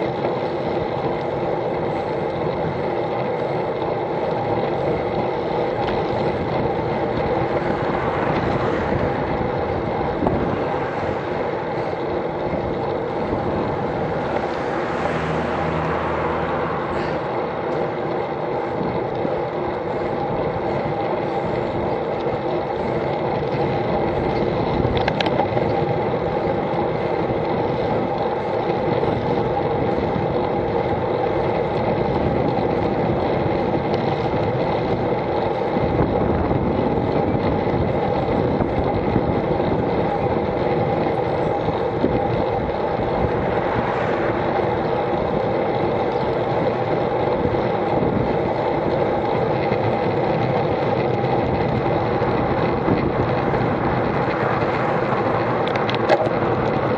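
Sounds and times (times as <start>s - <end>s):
bicycle road noise: 0.0s - 56.9s
wind buffeting microphone: 0.0s - 56.9s.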